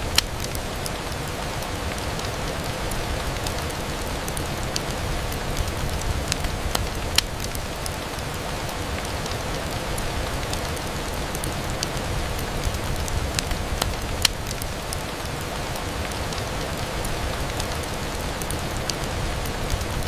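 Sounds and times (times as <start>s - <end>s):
rain on window glass: 0.0s - 20.0s.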